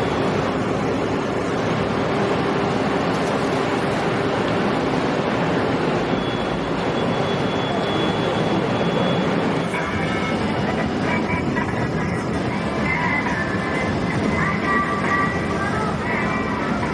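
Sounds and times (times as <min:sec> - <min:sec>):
wind: 0:00.0 - 0:16.9.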